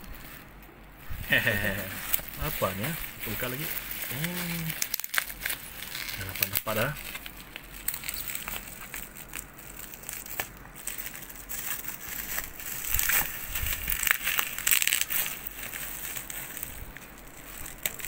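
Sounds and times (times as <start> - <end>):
bubble wrap crinkling: 0.0 - 18.0.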